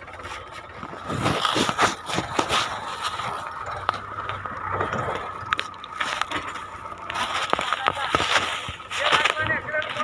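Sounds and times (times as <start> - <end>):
tractor engine droning: 0.0 - 10.0
crackling and scraping knocks: 0.2 - 10.0.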